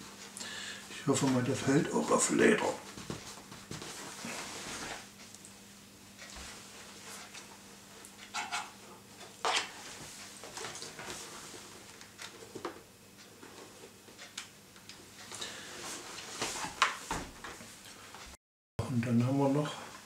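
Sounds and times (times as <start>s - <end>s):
faint hum: 0.0s - 16.5s.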